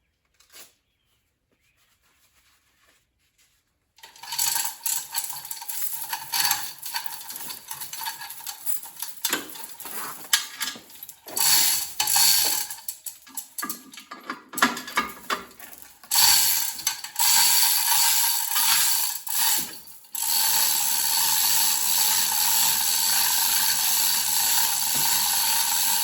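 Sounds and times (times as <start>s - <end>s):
ratcheting clicks: 4.0s - 13.9s, 14.6s - 26.0s.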